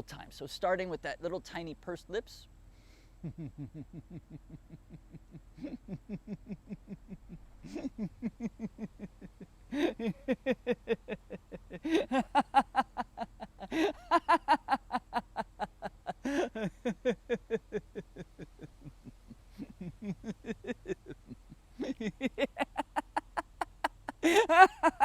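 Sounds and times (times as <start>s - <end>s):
man laughing: 3.2s - 25.0s.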